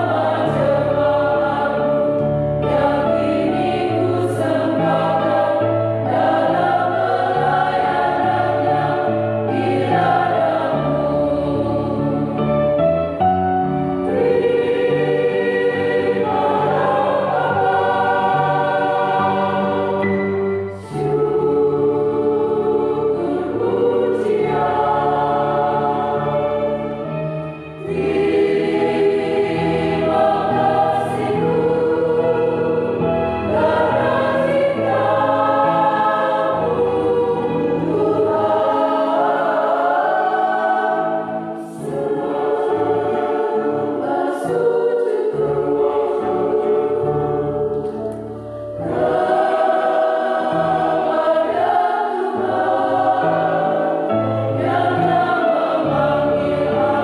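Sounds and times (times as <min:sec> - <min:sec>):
women's choir singing a hymn: 0:00.0 - 0:57.0.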